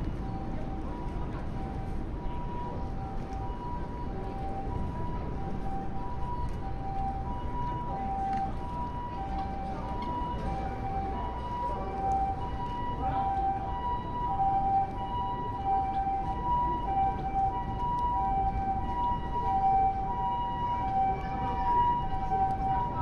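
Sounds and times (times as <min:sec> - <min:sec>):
city noise: 0:00.0 - 0:23.0
two-tone ambulance siren: 0:00.0 - 0:23.0.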